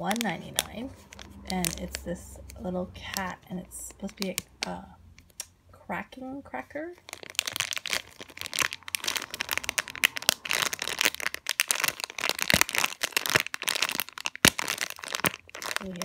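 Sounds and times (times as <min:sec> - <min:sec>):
foam toy crackling: 0:00.0 - 0:05.5, 0:06.9 - 0:16.0
plastic bag crinkling: 0:00.0 - 0:05.5, 0:06.8 - 0:16.0.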